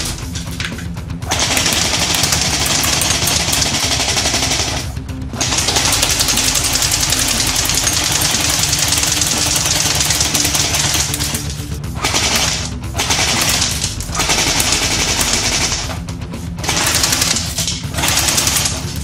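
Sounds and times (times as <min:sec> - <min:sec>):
pellets hitting vinyl record: 0:00.0 - 0:19.0
airsoft rifle automatic fire: 0:01.3 - 0:16.0, 0:16.6 - 0:19.0.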